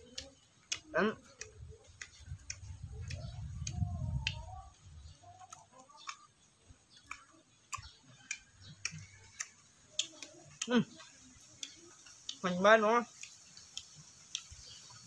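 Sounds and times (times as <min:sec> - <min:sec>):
person chewing wet smacks: 0:00.0 - 0:15.0.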